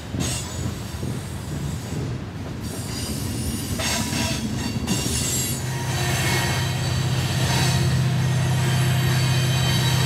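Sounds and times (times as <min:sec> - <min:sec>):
steel wheels squealing on rail: 0:00.0 - 0:10.0.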